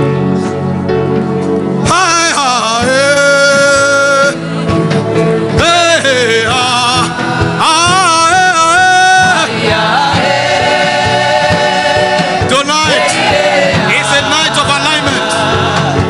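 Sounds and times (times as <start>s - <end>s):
keyboard chords over bass: 0.0s - 16.0s.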